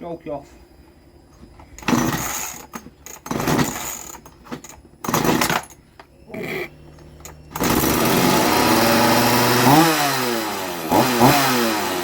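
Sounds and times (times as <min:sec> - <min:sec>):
chainsaw engine cranking: 0:01.8 - 0:05.8, 0:06.4 - 0:12.0.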